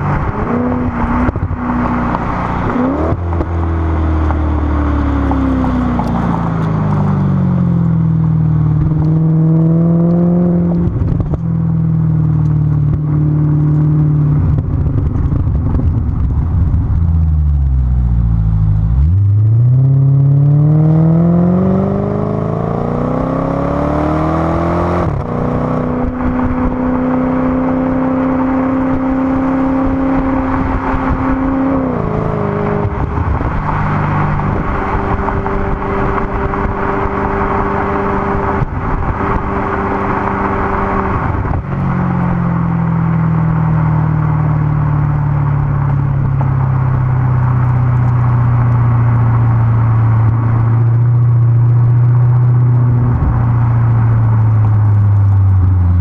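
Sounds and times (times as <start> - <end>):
car engine accelerating and shifting: 0.0 - 56.0
wind and road rush: 0.0 - 56.0.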